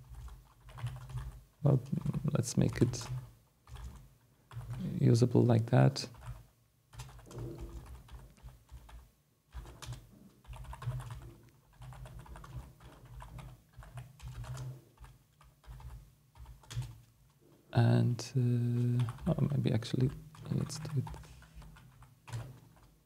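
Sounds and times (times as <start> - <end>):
typing on computer keyboard: 0.0 - 4.9, 6.1 - 17.1, 18.7 - 23.0.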